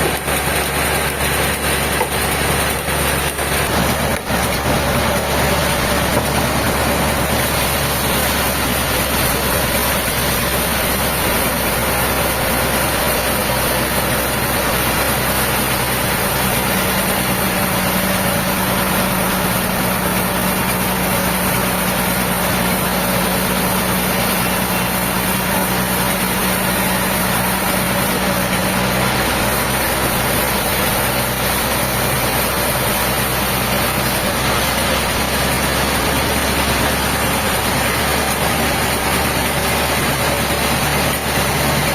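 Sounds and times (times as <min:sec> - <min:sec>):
heavy engine running: 0:00.0 - 0:41.9.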